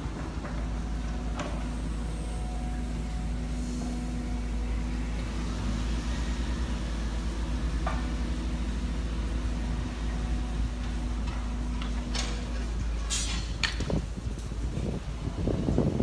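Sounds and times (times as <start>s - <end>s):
excavator diesel engine and hydraulics: 0.0s - 16.0s.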